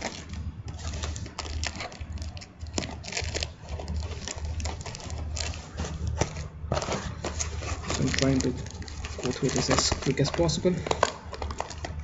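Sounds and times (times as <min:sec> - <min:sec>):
cardboard scraping and rustling: 0:00.0 - 0:12.0.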